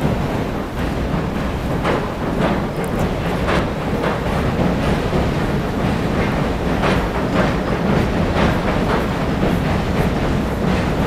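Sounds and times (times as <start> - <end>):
train rumbling over bridge: 0.0 - 11.0
wheels clattering over rail joints: 0.0 - 11.0.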